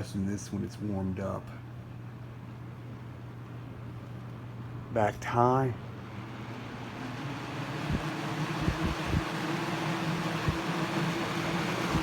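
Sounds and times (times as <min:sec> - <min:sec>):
box fan buzzing hum: 0:00.0 - 0:12.0.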